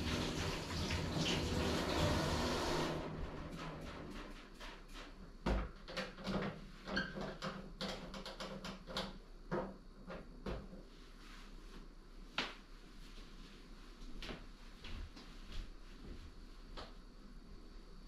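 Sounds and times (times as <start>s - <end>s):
faint low hum: 2.8s - 18.0s.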